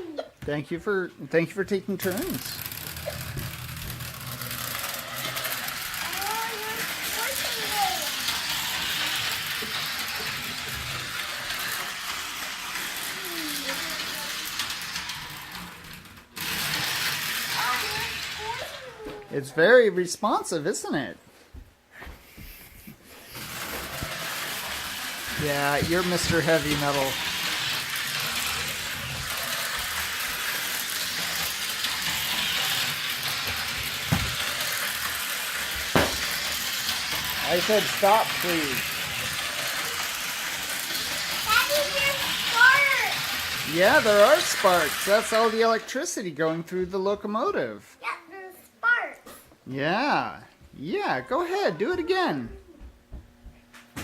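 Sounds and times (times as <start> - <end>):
toy train whirring and rattling: 1.4 - 19.6, 22.2 - 49.1.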